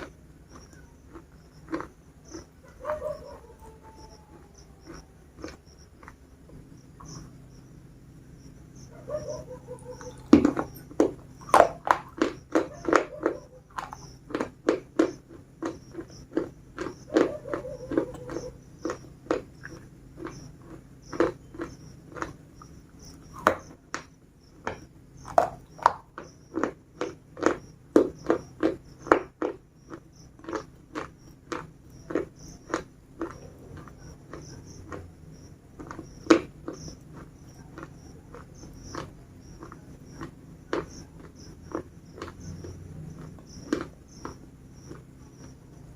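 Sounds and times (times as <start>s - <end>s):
biscuits crunching while chewed: 0.0s - 7.5s, 8.8s - 45.9s.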